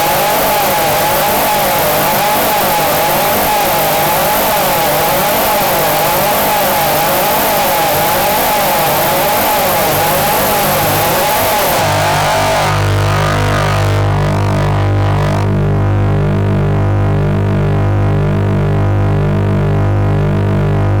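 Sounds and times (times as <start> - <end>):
low pulsing buzzing drone: 0.0 - 21.0.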